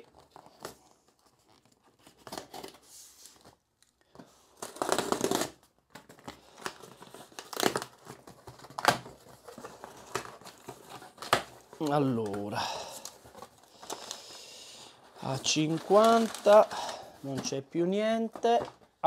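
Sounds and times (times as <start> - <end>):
packaging tearing and crinkling: 0.0 - 3.5, 4.5 - 14.4, 15.2 - 17.4.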